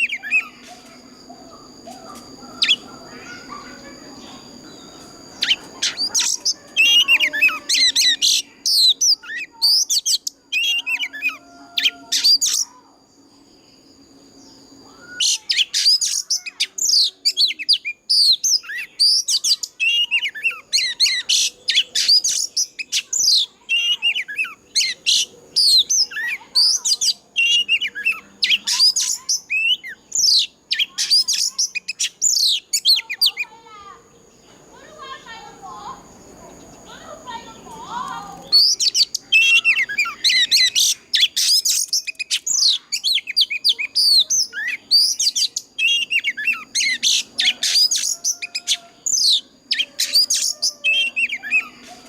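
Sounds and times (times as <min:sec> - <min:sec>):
bird singing whistled notes: 0:00.0 - 0:33.5, 0:38.3 - 0:52.0.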